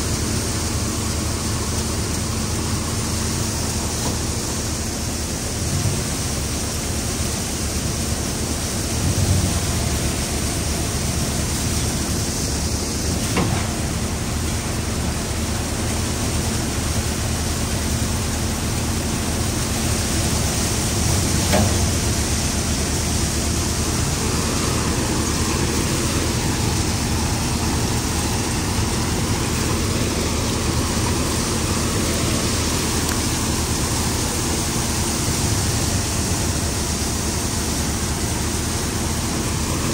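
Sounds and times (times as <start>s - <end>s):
threshing machine running: 7.6s - 39.9s.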